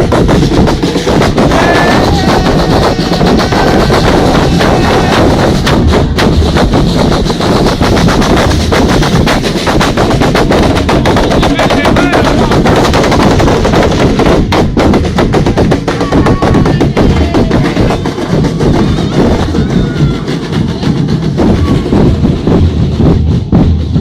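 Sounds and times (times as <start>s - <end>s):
bass drums with cymbals pounding: 0.0s - 24.0s.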